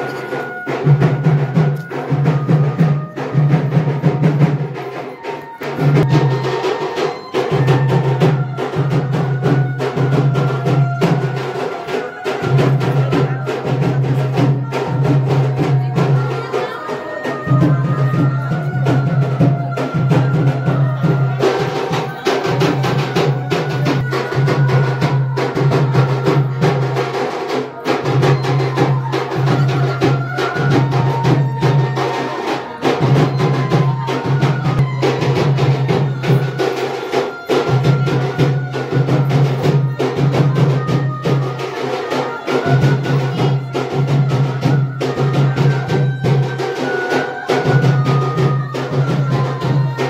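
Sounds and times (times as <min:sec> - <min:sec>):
music with busy drumming: 0:00.0 - 0:50.0.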